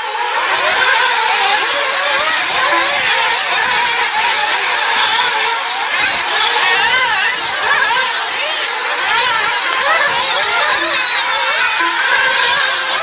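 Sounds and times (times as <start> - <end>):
rc car motors whining: 0.0 - 13.0.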